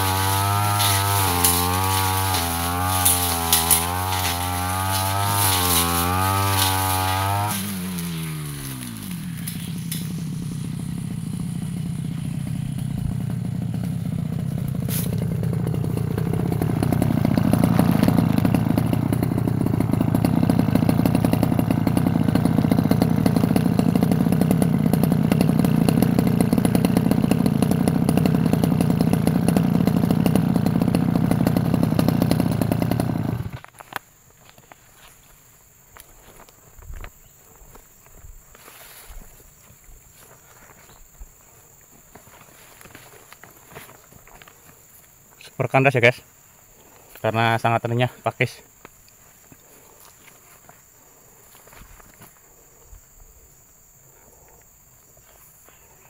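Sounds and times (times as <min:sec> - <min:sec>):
brush cutter engine: 0:00.0 - 0:56.0.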